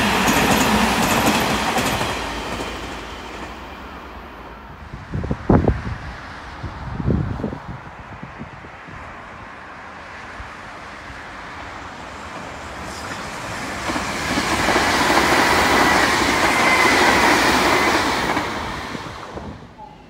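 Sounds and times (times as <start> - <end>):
electric train passing: 0.0 - 20.0
wheels rumbling on rails: 0.0 - 20.0.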